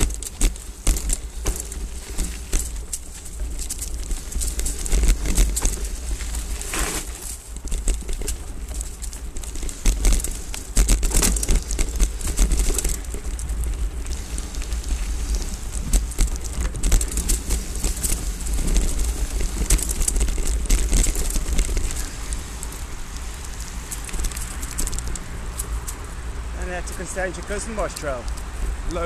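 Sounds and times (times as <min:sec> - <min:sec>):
bike rattling over bumps: 0:00.0 - 0:29.0
bike tyres on dirt: 0:00.0 - 0:29.0.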